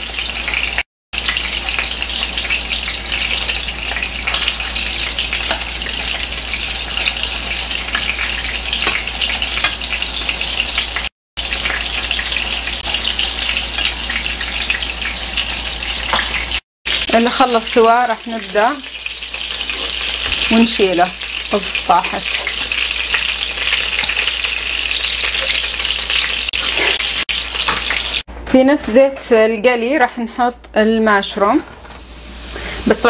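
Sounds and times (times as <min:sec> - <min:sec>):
meatballs sizzling in oil: 0:00.0 - 0:28.3, 0:32.0 - 0:33.0.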